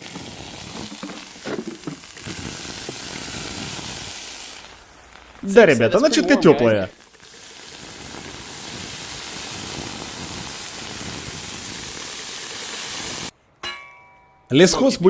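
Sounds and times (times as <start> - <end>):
steam hissing: 0.0 - 13.3.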